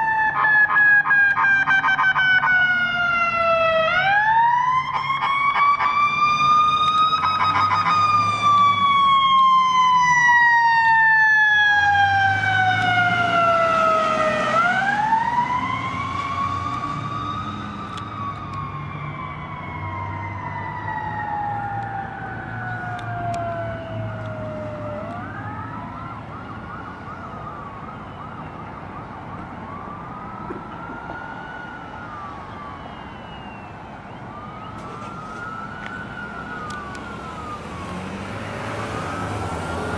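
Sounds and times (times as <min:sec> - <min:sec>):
engines rumbling: 0:00.0 - 0:39.9
second fainter siren: 0:00.0 - 0:39.9
siren wailing: 0:00.0 - 0:39.9.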